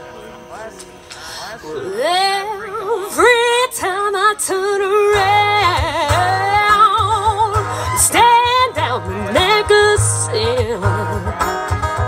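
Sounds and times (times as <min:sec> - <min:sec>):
acoustic guitar: 0:00.0 - 0:12.0
woman singing into a microphone: 0:01.9 - 0:11.6.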